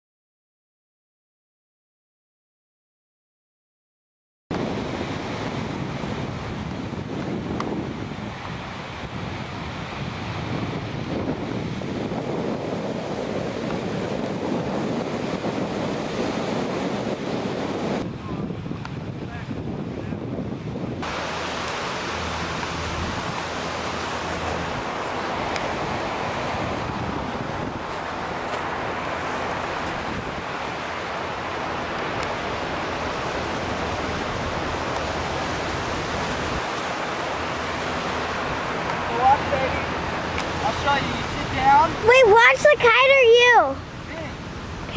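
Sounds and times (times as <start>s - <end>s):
breaking surf: 4.5s - 44.9s
wind on microphone: 4.5s - 44.9s.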